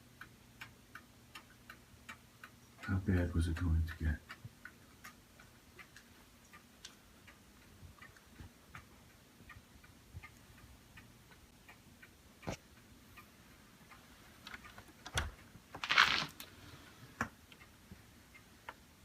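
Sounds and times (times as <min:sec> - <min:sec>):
faint even ticking: 0:00.0 - 0:15.7.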